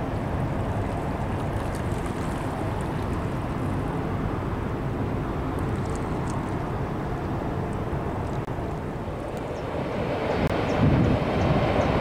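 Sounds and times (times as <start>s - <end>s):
ship engine rumble: 0.0s - 12.0s.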